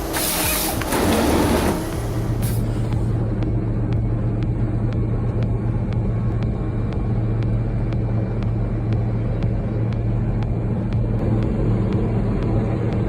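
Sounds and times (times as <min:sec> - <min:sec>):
large engine humming: 0:00.0 - 0:13.0.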